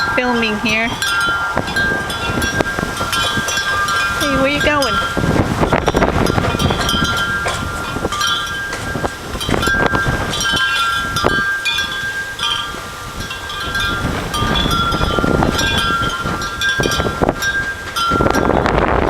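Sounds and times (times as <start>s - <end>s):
ringing chime tones: 0.0s - 18.8s
wind buffeting microphone: 0.0s - 19.0s.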